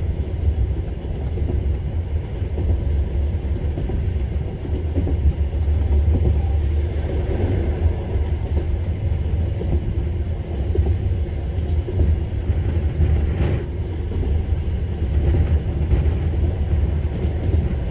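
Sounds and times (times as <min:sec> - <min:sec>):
passenger train rumbling: 0:00.0 - 0:17.9.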